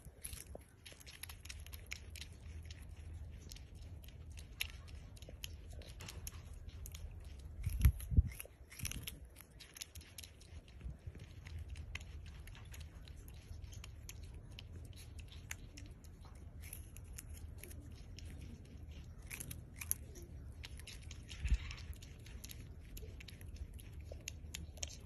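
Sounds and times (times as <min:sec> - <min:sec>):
porcupine gnawing corn: 0:00.0 - 0:25.0.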